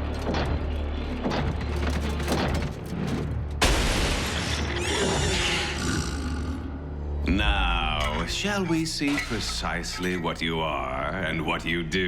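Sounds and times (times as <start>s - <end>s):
low droning score music: 0.0s - 12.0s.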